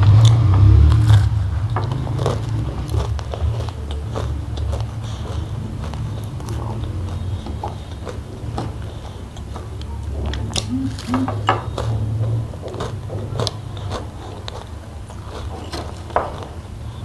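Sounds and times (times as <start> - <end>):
steady low hum: 0.0 - 15.5
person chewing and biting food: 0.0 - 16.6.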